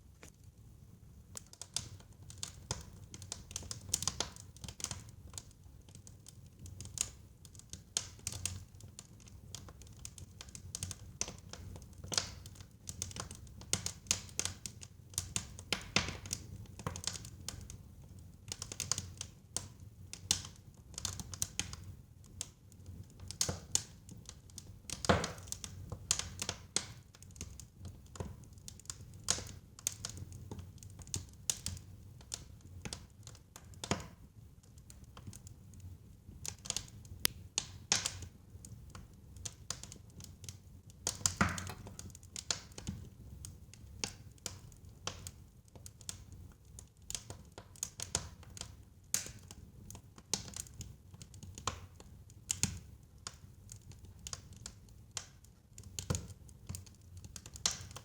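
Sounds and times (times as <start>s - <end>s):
fire crackling and popping: 0.1s - 58.0s.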